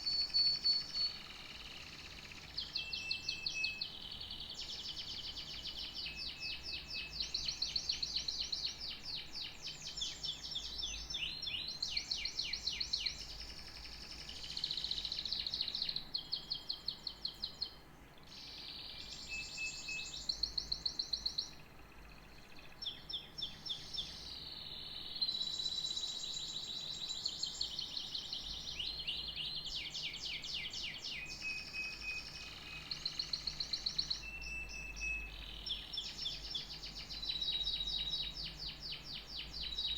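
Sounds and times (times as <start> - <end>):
canary singing trills: 0.0 - 39.9
faint low hum: 0.0 - 39.9.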